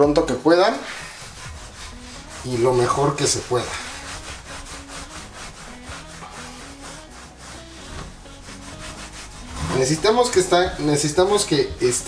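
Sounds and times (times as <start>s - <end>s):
hand rubbing cast iron grill: 0.6s - 12.0s.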